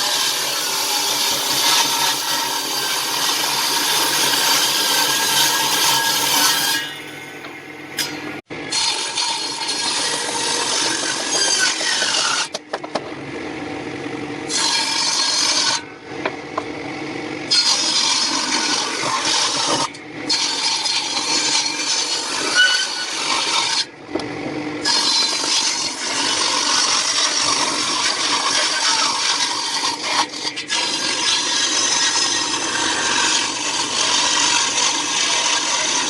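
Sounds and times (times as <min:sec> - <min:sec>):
wood sawing and rasping: 0:00.0 - 0:12.6, 0:14.5 - 0:15.8, 0:17.5 - 0:23.9, 0:24.8 - 0:36.0.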